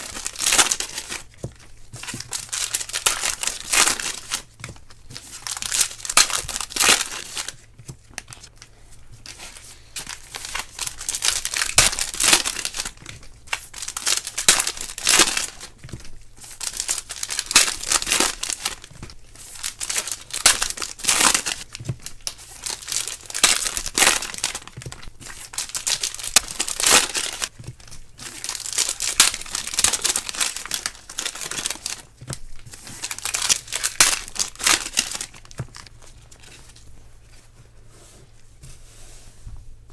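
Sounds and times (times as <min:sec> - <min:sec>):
plastic sleeves crinkling and rustling: 0:00.0 - 0:39.9.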